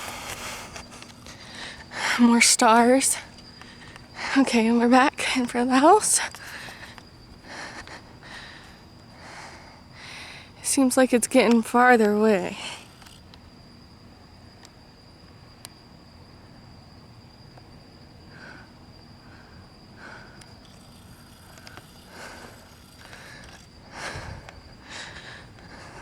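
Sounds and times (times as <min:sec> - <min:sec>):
high insect trill: 0:00.0 - 0:26.0.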